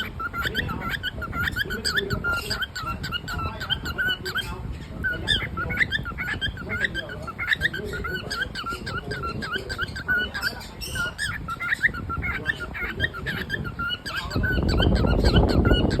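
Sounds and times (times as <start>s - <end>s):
cockatiel chirping: 0.0s - 16.0s.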